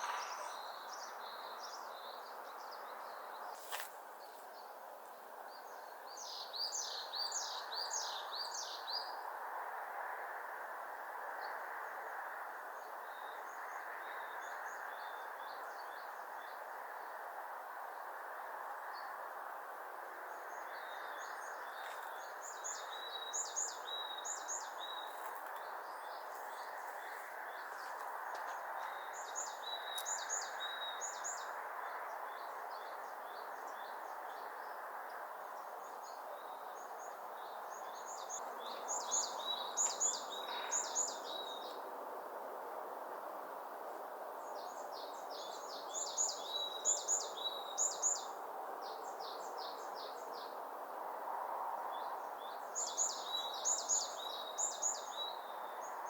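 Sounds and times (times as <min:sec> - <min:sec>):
songbird chirping: 0:00.0 - 0:09.3, 0:11.4 - 0:41.9, 0:44.5 - 0:50.6, 0:51.8 - 0:56.0.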